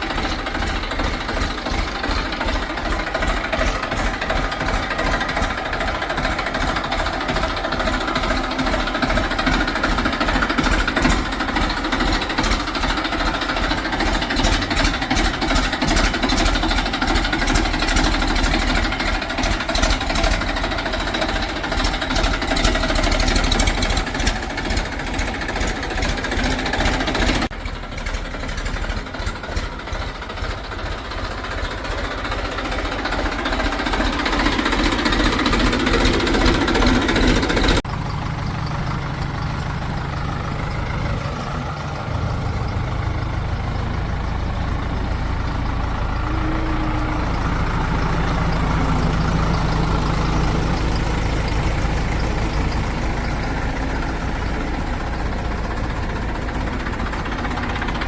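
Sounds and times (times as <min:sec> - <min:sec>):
diesel engine knocking: 0:00.0 - 0:58.0
steady low diesel engine: 0:00.0 - 0:58.0.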